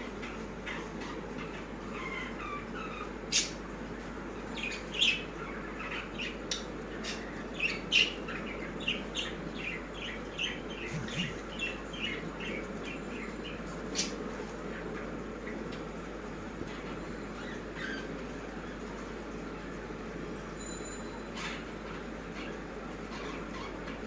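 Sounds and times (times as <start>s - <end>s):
birds chirping: 0.0s - 20.1s
low background hum: 0.0s - 24.0s.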